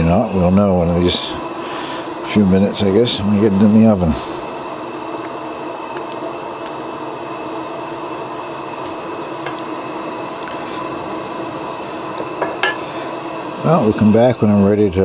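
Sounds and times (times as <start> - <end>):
gas stove and lantern hissing: 0.0 - 15.0.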